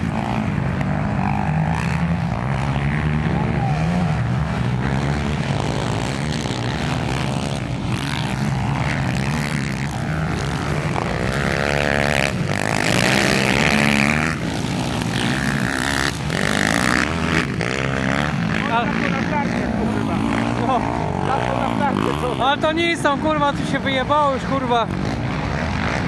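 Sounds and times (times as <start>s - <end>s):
quad engines revving: 0.0s - 26.0s.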